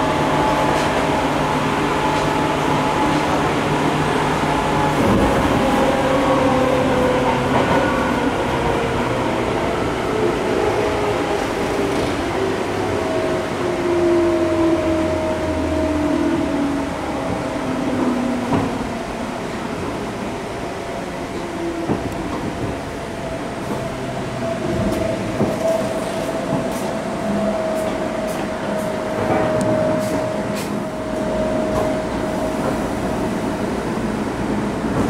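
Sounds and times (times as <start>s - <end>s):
train rumble inside car: 0.0s - 35.0s.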